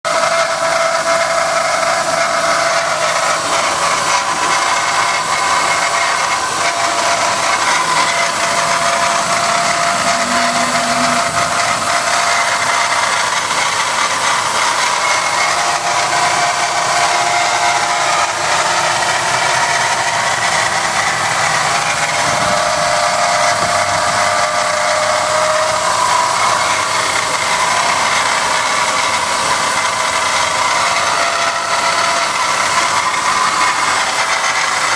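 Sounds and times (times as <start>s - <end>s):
car engine running: 1.2s - 34.9s.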